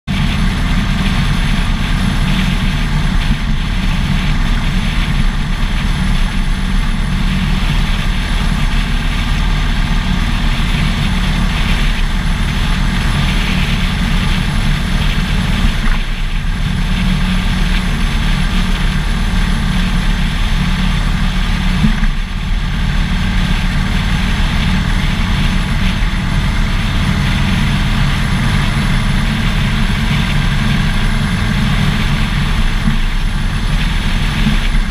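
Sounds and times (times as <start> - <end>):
motorcycle engine running: 0.1 - 34.9
road noise: 0.1 - 34.9
wind: 0.1 - 34.9.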